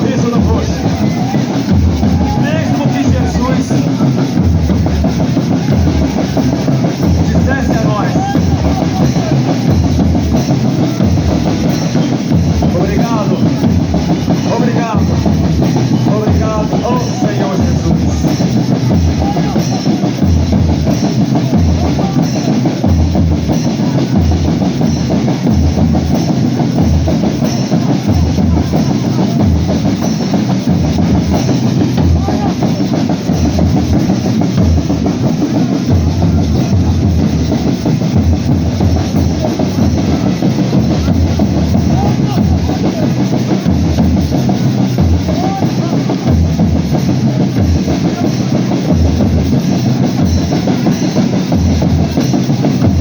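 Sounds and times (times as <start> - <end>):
loud music with heavy drum beat: 0.0 - 53.0
voices: 0.0 - 53.0.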